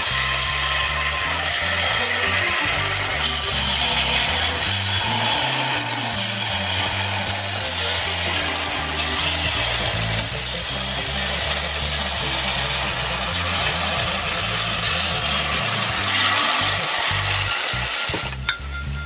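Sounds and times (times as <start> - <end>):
background music with bass: 0.0 - 19.0
batter sizzling in hot pan: 0.0 - 19.0.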